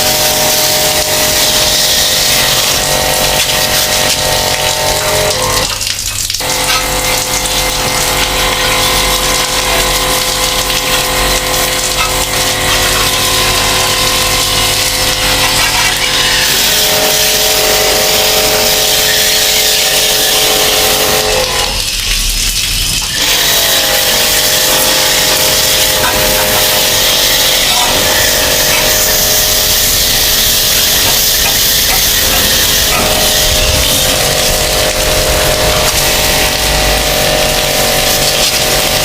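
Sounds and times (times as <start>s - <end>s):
pressure washer water jet hissing: 0.0s - 39.0s
washer motor and pump hum: 0.0s - 39.0s.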